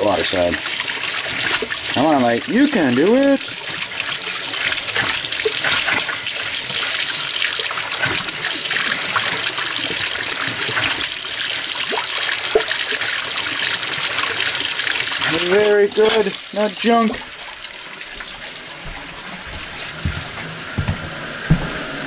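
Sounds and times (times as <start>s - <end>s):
faucet water sputtering: 0.0s - 22.0s.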